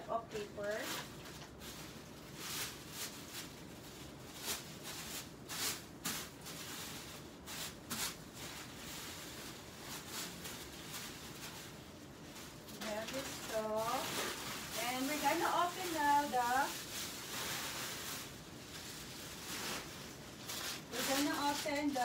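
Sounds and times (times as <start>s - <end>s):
wrapping paper rustling: 0.0s - 22.0s.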